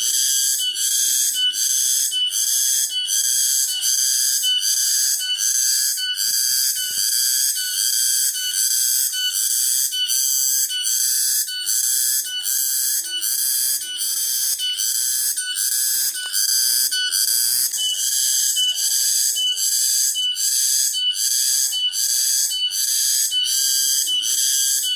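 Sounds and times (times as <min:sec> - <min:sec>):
cicadas singing: 0:00.0 - 0:24.9.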